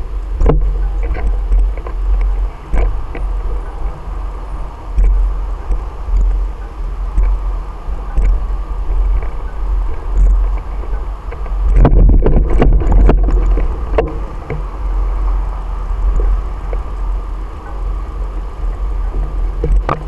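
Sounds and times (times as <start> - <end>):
low rumble of rolling bike: 0.0 - 20.0
wind buffeting: 0.0 - 20.0.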